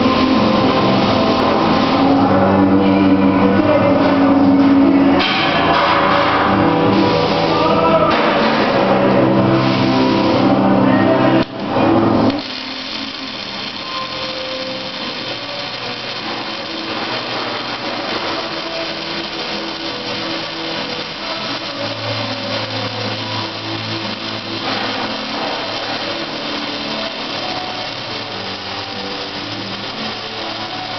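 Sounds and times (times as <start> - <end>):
welding arc hissing: 0.0 - 3.2, 4.6 - 30.9
music with singing: 0.0 - 30.9.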